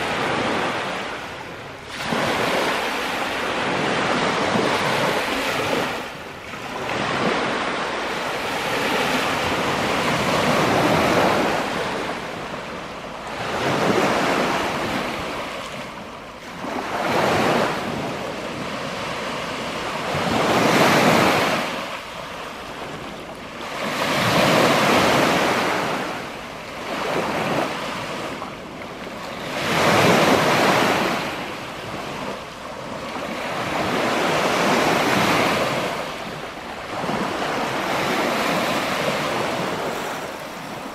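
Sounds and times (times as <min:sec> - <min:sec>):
small waves washing on beach: 0:00.0 - 0:40.9.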